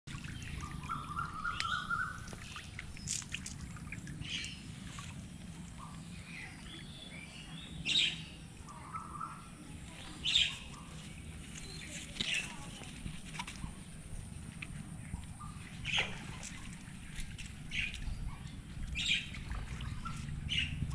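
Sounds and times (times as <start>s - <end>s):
birds chirping: 0.1s - 20.9s.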